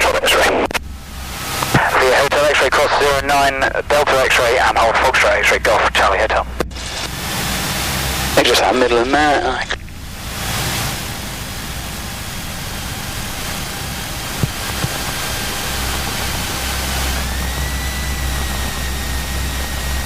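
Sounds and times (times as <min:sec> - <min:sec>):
light aircraft engine and propeller: 0:00.0 - 0:20.0.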